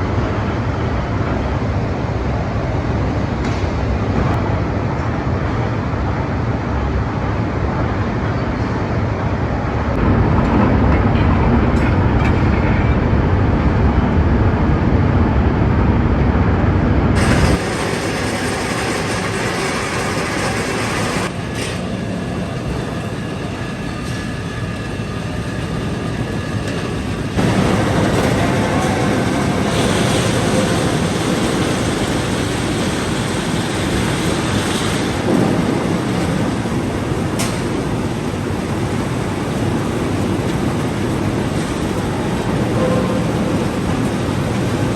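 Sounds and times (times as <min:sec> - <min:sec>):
industrial machinery noise: 0:00.0 - 0:44.9.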